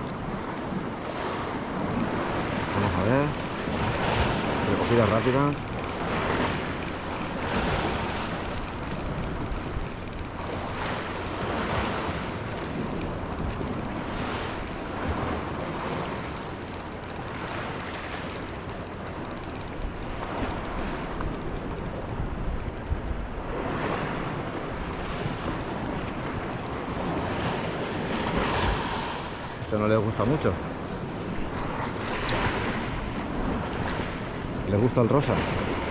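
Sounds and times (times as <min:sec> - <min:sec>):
small waves lapping on shore: 0:00.0 - 0:35.9
wind buffeting microphone: 0:00.0 - 0:35.9.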